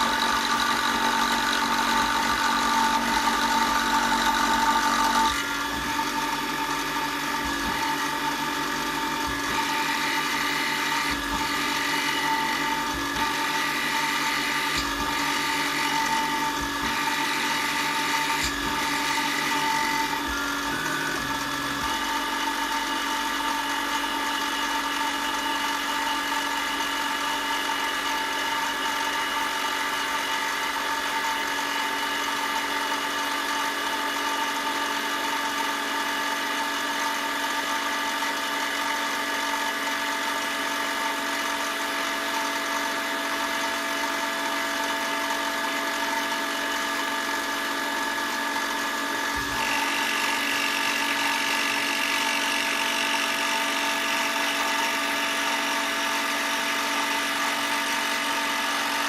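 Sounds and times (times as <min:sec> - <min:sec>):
power tool motor running: 0:00.0 - 0:59.0.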